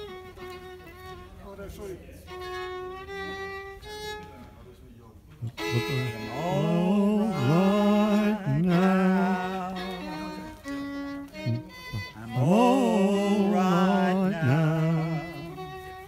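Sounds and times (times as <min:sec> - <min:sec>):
solo violin playing: 0:00.0 - 0:04.7, 0:05.4 - 0:16.0.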